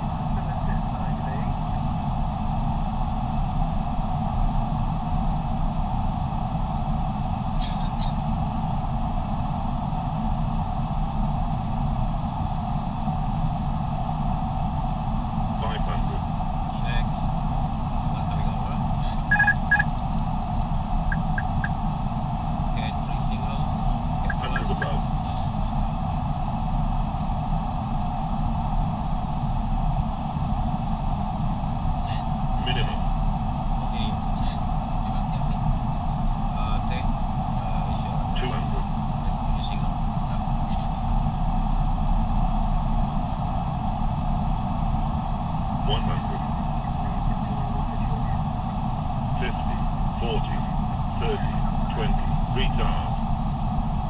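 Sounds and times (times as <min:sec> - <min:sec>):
cockpit airflow and engine noise: 0:00.0 - 0:54.0.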